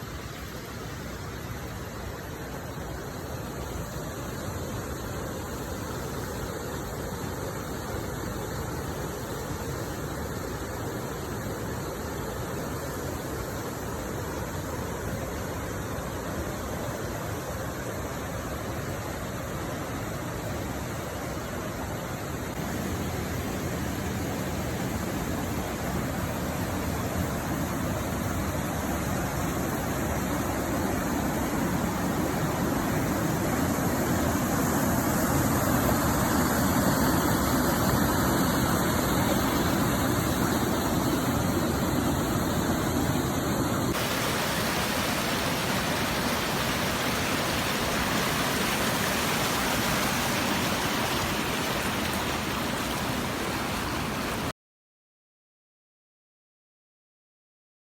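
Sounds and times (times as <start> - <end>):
river water rushing over waterfalls: 0.0 - 54.5.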